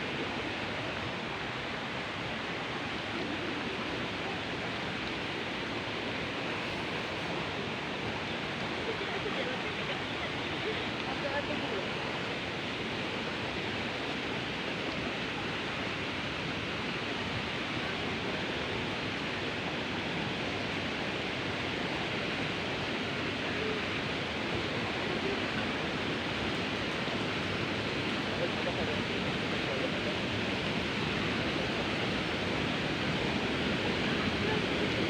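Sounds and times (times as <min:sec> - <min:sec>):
rushing water roar: 0:00.0 - 0:35.0.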